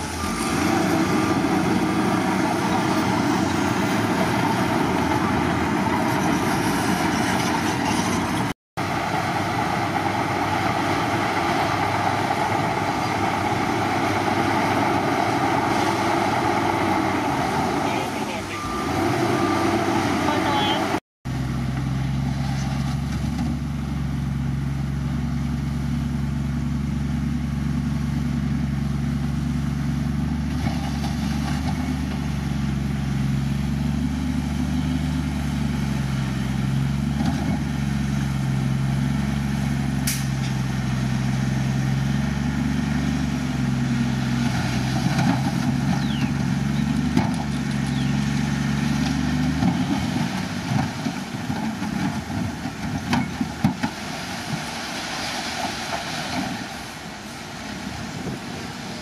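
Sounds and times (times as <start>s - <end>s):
heavy diesel engine running: 0.0s - 54.8s.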